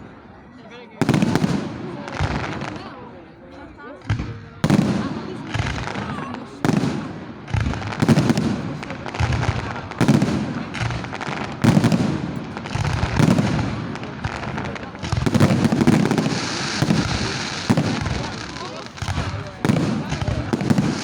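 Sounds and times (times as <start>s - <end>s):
fireworks crackling: 1.0s - 3.0s, 4.2s - 21.0s
fireworks bangs with rumbling echo: 1.0s - 21.0s.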